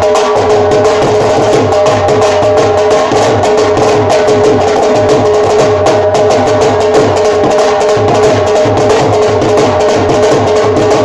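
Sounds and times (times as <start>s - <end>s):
barrel drum played with sticks: 0.0s - 11.0s.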